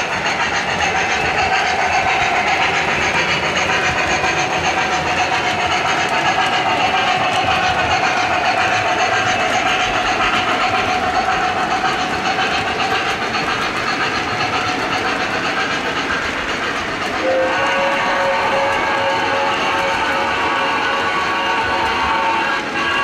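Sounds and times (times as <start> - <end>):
model train wheels clattering: 0.0 - 23.0.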